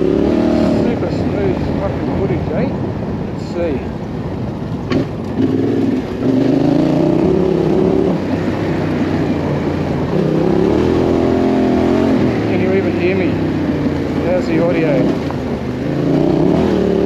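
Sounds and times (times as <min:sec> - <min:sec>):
motorcycle engine revving: 0:00.0 - 0:02.6, 0:04.8 - 0:17.0.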